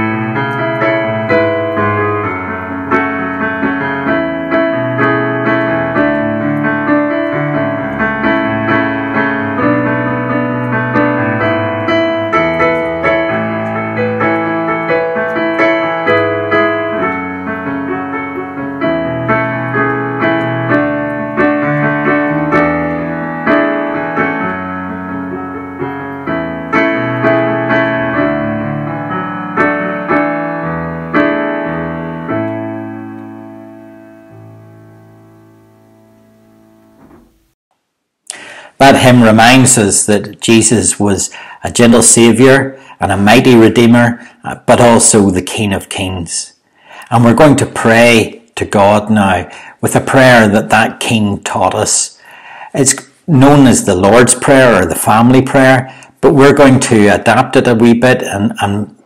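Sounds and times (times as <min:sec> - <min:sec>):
piano playing hymn tune: 0:00.0 - 0:37.6, 0:38.3 - 0:46.3, 0:47.1 - 0:59.0.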